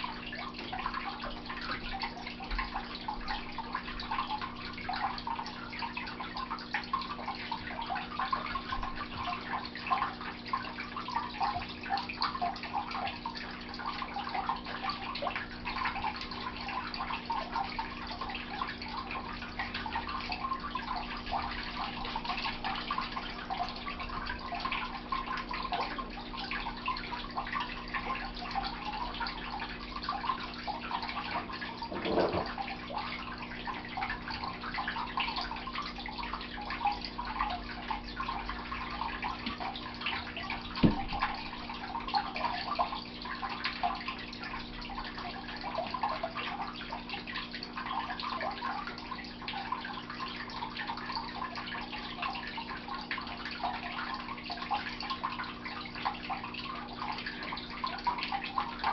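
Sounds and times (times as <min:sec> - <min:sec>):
water trickling: 0:00.0 - 0:58.9.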